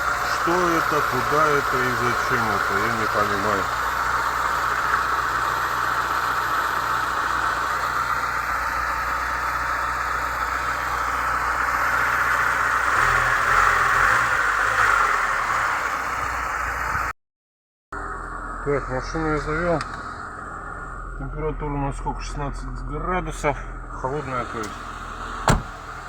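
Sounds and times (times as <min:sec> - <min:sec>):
car engine idling: 0:00.0 - 0:17.1, 0:18.0 - 0:26.0.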